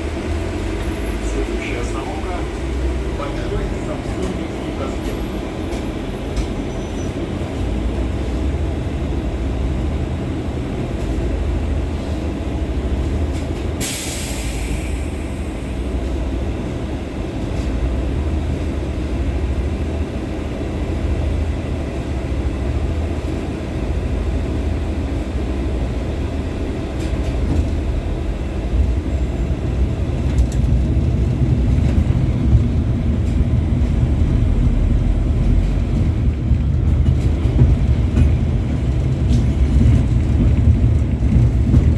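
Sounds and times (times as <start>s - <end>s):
tram wheels rumbling on rails: 0.0s - 41.9s.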